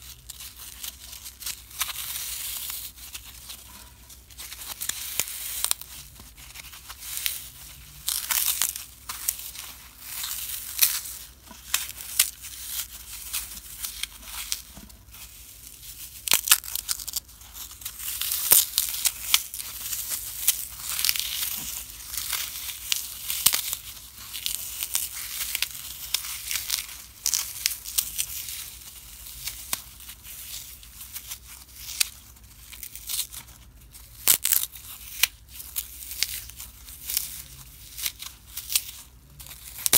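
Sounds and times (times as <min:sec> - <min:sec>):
floral foam crunching: 0:00.0 - 0:39.9.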